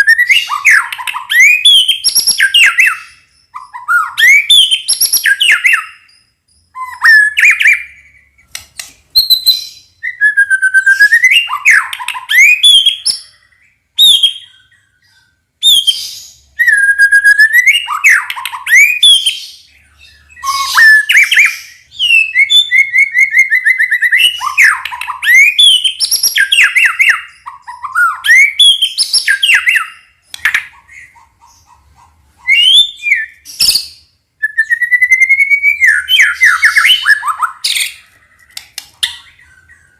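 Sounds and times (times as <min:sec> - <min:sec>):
bird singing whistles and trills: 0:00.0 - 0:31.8, 0:32.4 - 0:39.9.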